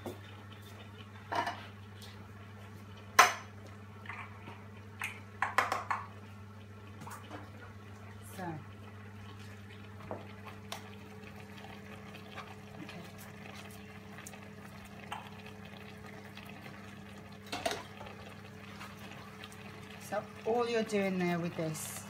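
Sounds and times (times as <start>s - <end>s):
pans simmering: 0.0s - 22.0s.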